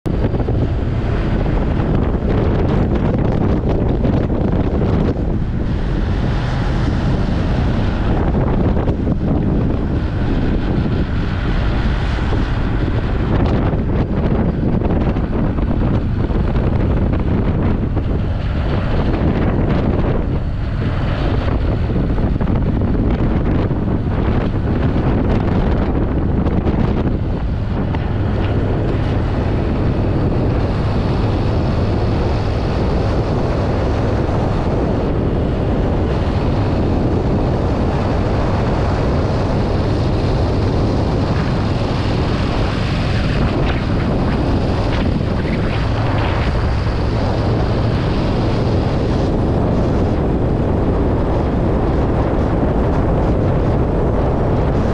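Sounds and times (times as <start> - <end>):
motorcycle engine cruising: 0.0 - 54.9
wind rush on microphone: 0.0 - 54.9.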